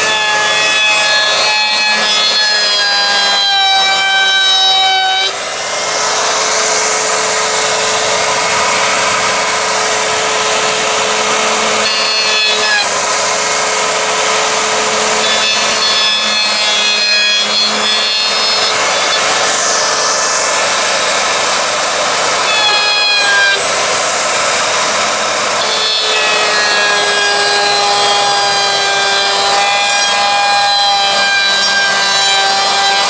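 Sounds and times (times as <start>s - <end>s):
electric router motor whine: 0.0s - 33.0s
router bit rasping in wood: 0.0s - 33.0s.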